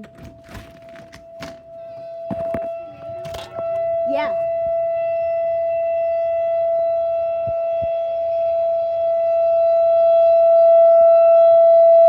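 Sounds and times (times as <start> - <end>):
warning siren wailing: 0.0 - 12.0.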